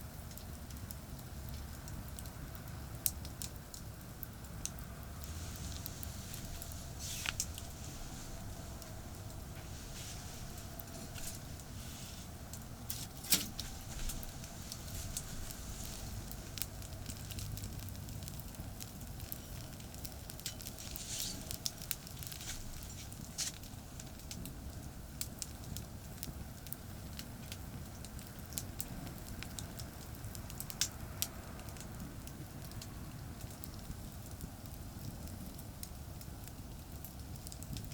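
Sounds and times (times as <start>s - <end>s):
campfire crackling and popping: 0.0s - 37.9s
fire low rumble: 0.0s - 37.9s.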